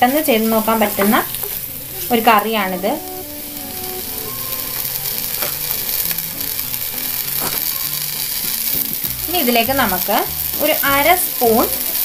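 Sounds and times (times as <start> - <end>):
masala sizzling in a frying pan: 0.0 - 12.0
quiet background music: 0.0 - 12.0.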